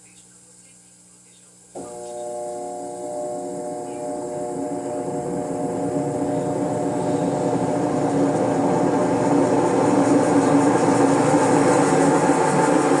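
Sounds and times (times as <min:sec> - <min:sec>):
washing machine spin cycle drone: 0:00.0 - 0:13.0.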